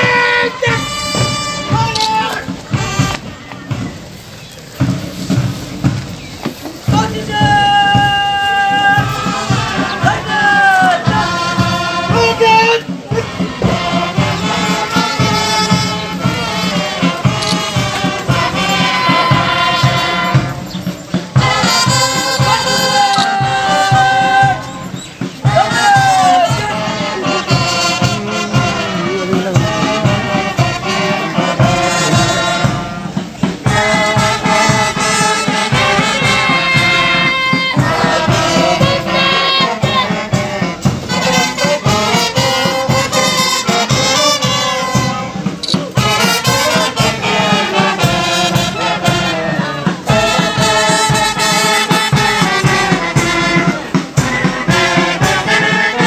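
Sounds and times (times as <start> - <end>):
brass band playing a march: 0.0 - 56.0.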